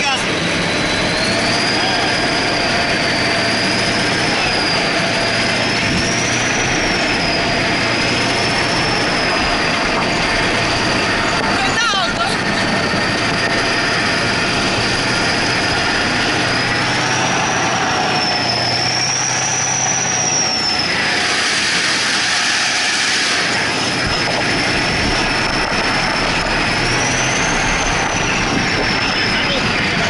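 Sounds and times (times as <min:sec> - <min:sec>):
high whine: 0:00.0 - 0:30.0
tracked vehicle diesel engine: 0:00.0 - 0:30.0.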